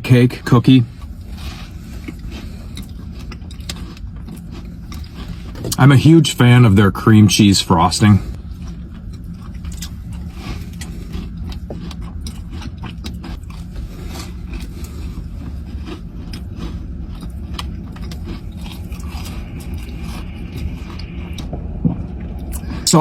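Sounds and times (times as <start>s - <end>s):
low rumble: 0.0s - 23.0s
chewing soft cookie: 0.3s - 7.4s, 8.0s - 23.0s.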